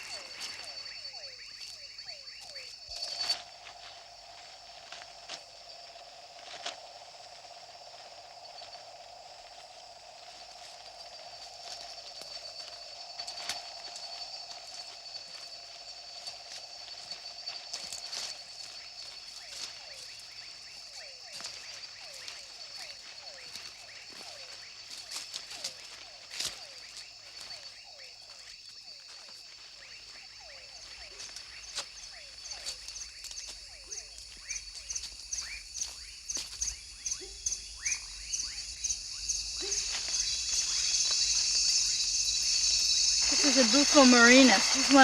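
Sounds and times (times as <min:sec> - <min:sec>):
high insect trilling: 0:00.0 - 0:45.0
rapidly pulsing insect call: 0:00.0 - 0:45.0.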